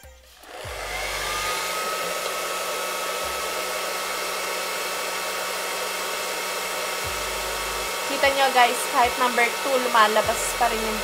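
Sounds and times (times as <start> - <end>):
hair dryer blowing air: 0.2 - 11.0.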